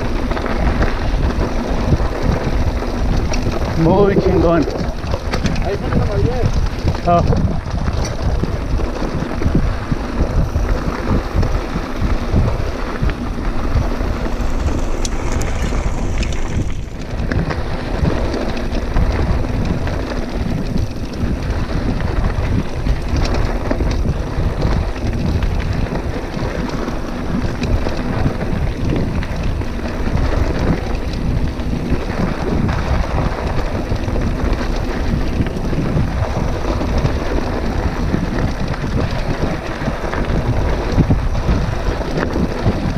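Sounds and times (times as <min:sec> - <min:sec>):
mountain bike rattling on dirt trail: 0:00.0 - 0:42.9
wind buffeting microphone: 0:00.0 - 0:42.9.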